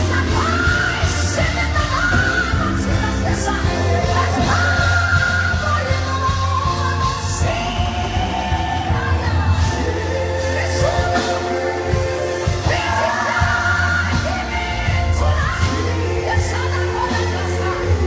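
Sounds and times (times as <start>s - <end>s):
band with bass and drums: 0.0s - 18.0s
woman singing into microphone: 0.0s - 18.0s.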